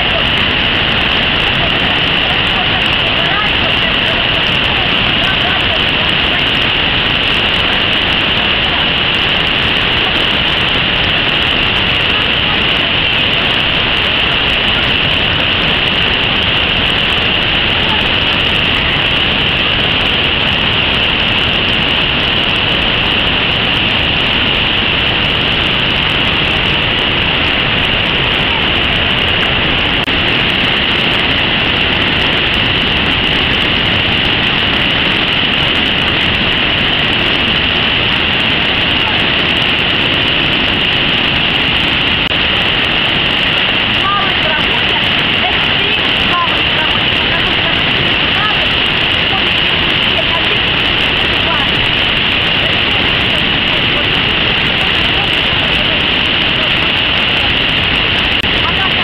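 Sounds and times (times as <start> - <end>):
river rapids roaring: 0.0 - 59.0.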